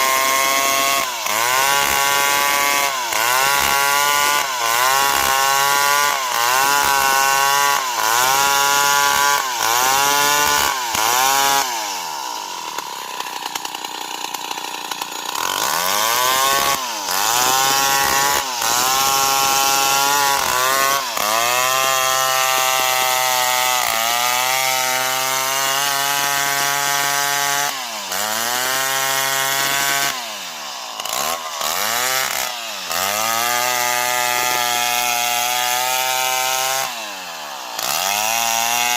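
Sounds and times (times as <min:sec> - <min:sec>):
chainsaw cutting wood: 0:00.0 - 0:38.9
chainsaw revving and idling: 0:00.0 - 0:38.9.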